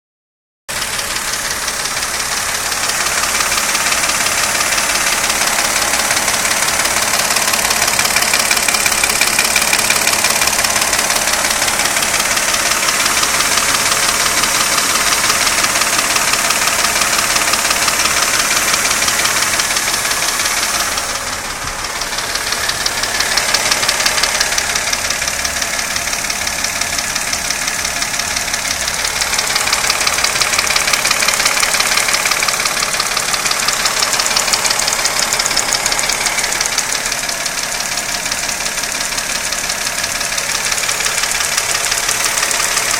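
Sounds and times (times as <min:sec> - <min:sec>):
engine running with knock: 0:00.7 - 0:42.9.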